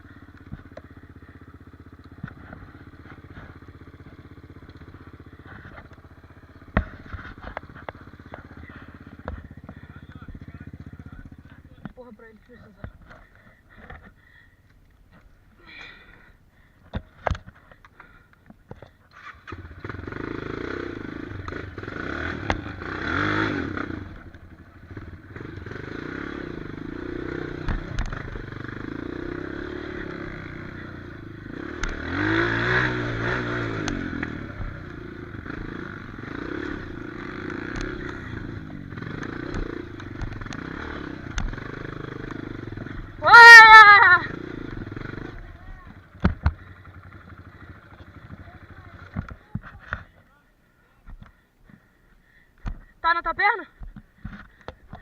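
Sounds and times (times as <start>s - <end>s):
motorcycle engine revving: 0.0s - 50.3s.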